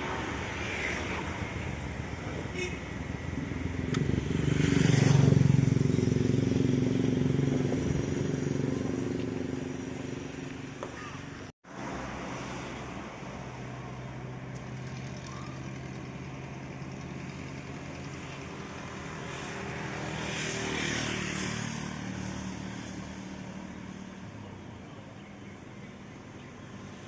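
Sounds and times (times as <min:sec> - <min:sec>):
vehicle passing by: 0:00.0 - 0:24.8
steady engine hum: 0:00.0 - 0:27.0.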